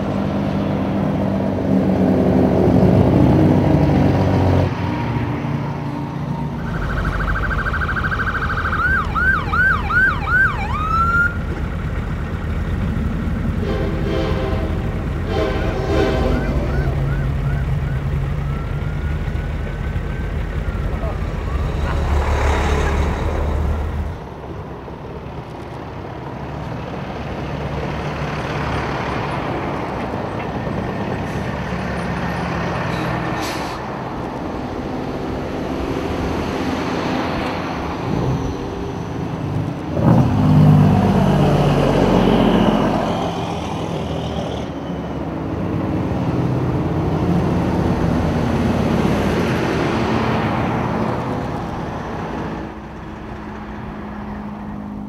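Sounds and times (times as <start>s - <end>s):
trucks driving past: 0.0s - 55.0s.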